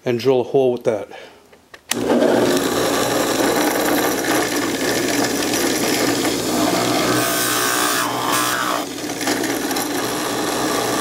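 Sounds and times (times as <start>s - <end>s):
drill press boring wood: 1.9s - 11.0s.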